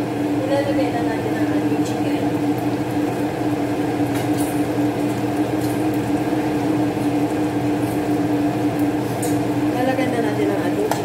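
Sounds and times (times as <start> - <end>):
sauce bubbling in frying pan: 0.0 - 11.0
steady hum: 0.0 - 11.0.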